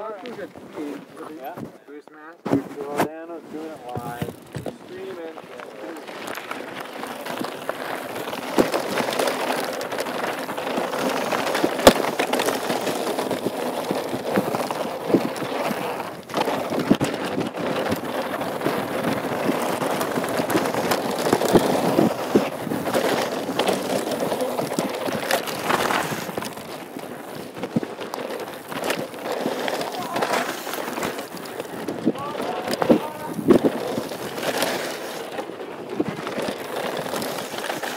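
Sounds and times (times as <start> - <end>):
bike tyres over loose stone: 0.0 - 1.8, 2.4 - 37.9
bike knocking and rattling: 0.0 - 1.9, 3.8 - 37.9.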